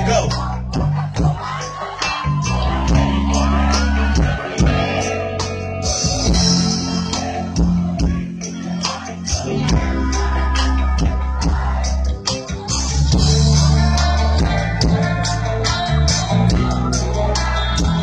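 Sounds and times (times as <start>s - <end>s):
live rock band: 0.0s - 18.0s
steady drum beat: 0.0s - 18.0s.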